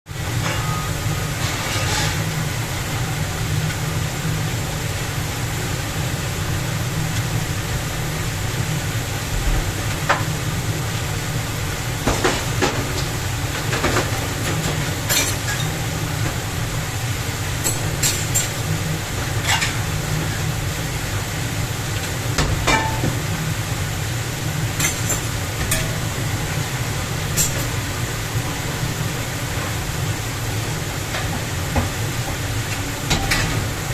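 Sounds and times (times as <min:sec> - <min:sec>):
dishwasher motor hum: 0:00.1 - 0:33.9.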